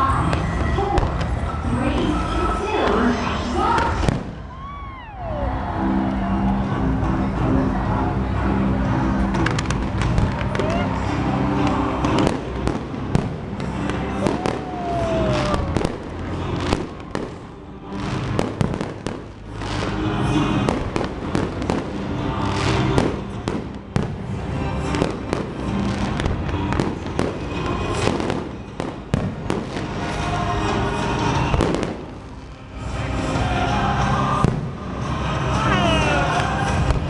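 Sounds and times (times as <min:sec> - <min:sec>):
fireworks bangs and crackles: 0:00.0 - 0:05.0, 0:06.5 - 0:37.0
music playing: 0:00.0 - 0:37.0.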